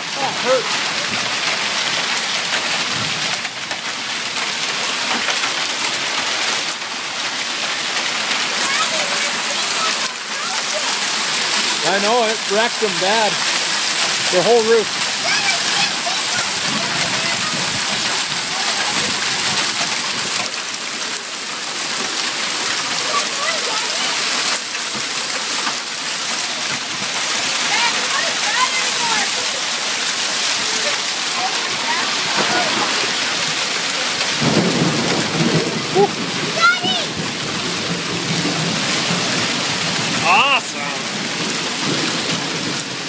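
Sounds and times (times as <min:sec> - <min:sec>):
heavy rain and hail: 0:00.0 - 0:43.0.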